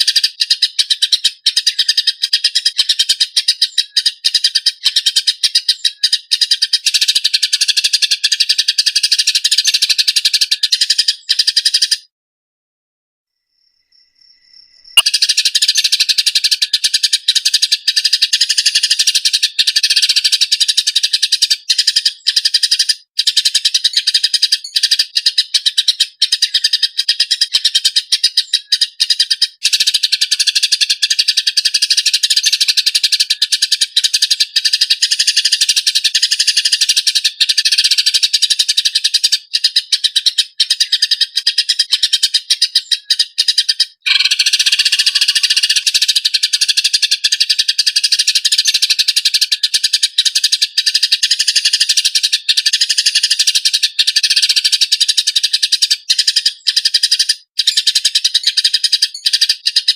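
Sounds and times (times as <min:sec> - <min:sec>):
sparrows chattering harshly: 0:00.0 - 0:12.1, 0:14.9 - 0:59.9.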